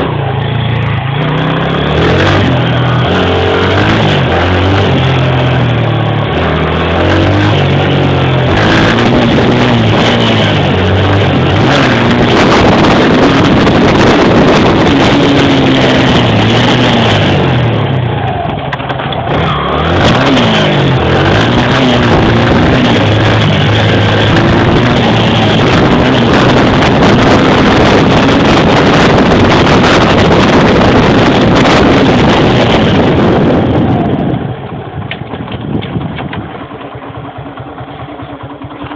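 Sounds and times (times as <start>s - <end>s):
dirt bike engine revving: 0.0s - 34.3s.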